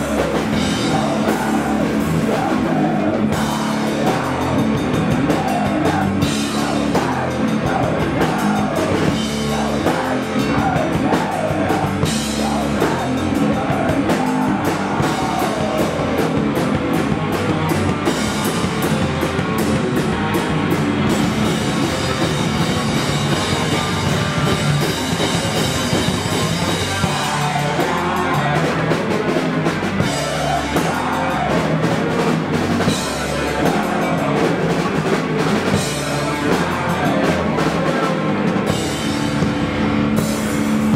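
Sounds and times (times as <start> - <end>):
distorted guitar and bass: 0.0 - 40.9
drum kit: 0.0 - 40.9.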